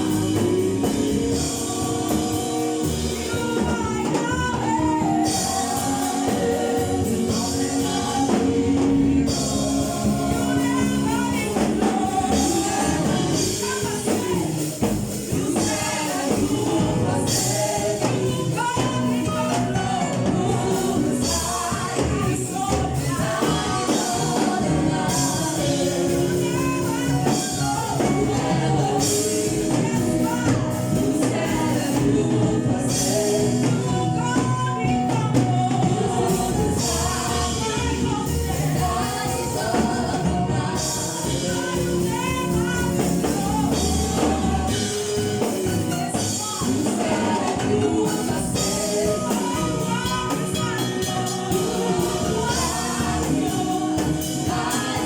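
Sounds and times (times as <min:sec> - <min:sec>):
choir singing gospel song: 0:00.0 - 0:55.0
live band playing: 0:00.0 - 0:55.0
steady percussion: 0:00.0 - 0:55.0.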